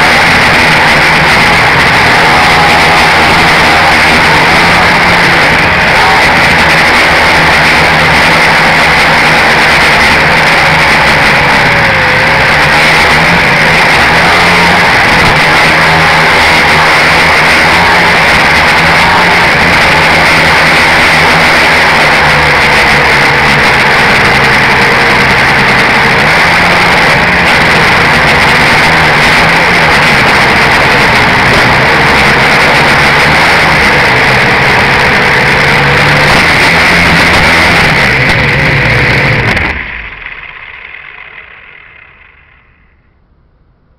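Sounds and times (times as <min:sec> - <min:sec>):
drone motors and propellers whirring: 0:00.0 - 0:43.2.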